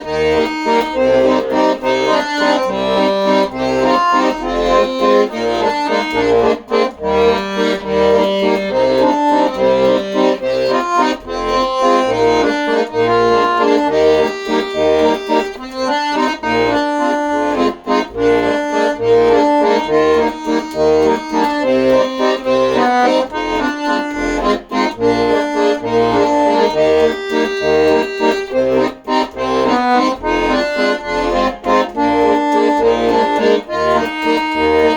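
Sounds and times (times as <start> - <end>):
accordion playing: 0.0 - 34.9.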